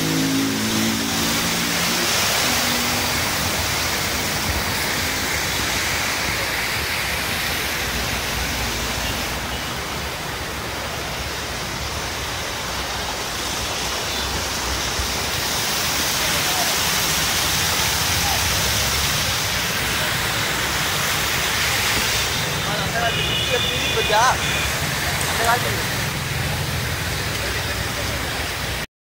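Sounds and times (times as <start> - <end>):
water pouring and splashing: 0.0 - 28.9.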